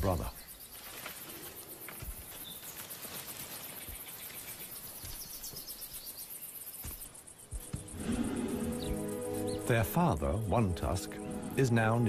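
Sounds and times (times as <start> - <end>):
insects chirring: 0.0 - 12.0
steady outdoor hiss: 0.0 - 12.0.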